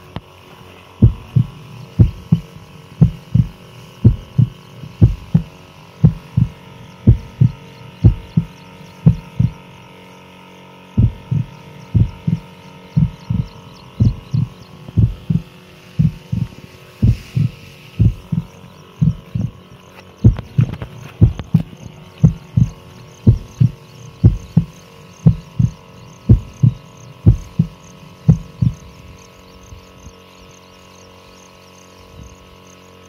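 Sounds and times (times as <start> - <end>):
crop sprayer humming: 0.0 - 33.0
low thumps: 1.0 - 9.6, 11.0 - 29.0.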